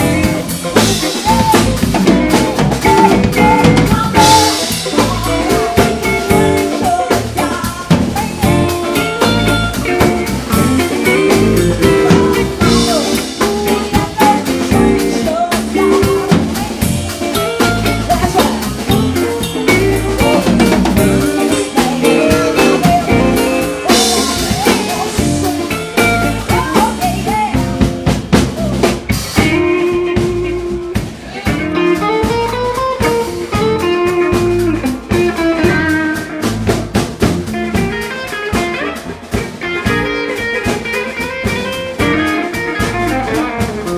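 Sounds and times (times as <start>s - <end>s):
drum kit beat: 0.0s - 43.9s
electric guitar: 0.0s - 43.9s
live blues band playing: 0.0s - 43.9s.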